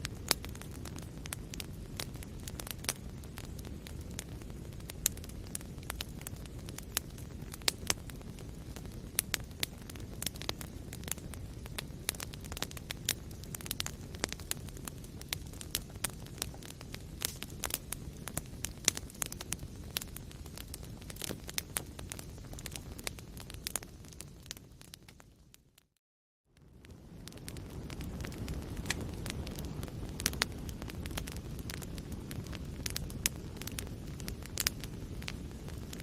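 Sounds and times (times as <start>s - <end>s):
low rumble of flame: 0.0s - 25.9s, 26.5s - 36.0s
fire crackling and popping: 0.0s - 36.0s.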